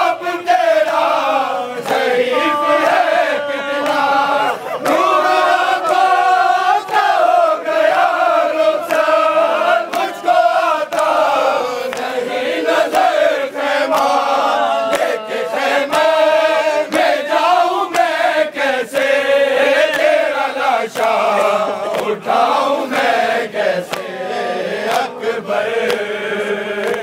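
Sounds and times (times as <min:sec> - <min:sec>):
lead reciter chanting: 0:00.0 - 0:27.0
men chanting a lament in unison: 0:00.0 - 0:27.0
sharp rhythmic beats: 0:00.0 - 0:27.0.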